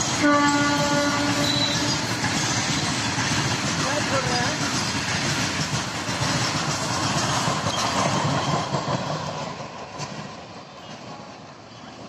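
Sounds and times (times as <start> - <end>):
train wheels clattering over rails: 0.0 - 12.0.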